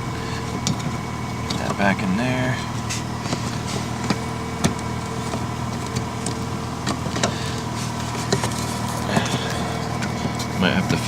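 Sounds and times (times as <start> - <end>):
heater blower motor hum: 0.0 - 11.0.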